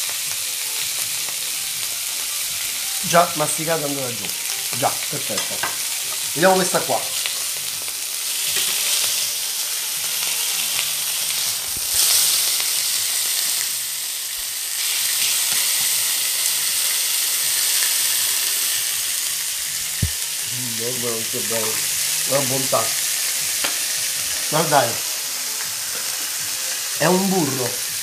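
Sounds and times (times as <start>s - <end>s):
meat sizzling in frying pan: 0.0s - 28.0s.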